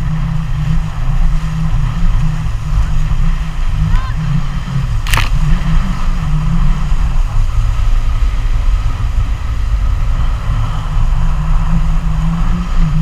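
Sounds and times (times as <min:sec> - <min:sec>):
water rushing past boat: 0:00.0 - 0:13.0
wind buffeting microphone: 0:00.0 - 0:13.0.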